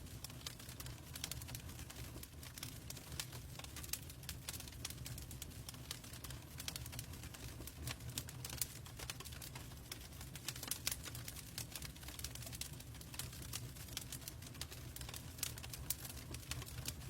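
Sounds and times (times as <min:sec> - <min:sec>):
logs crackling in fireplace: 0:00.0 - 0:17.0.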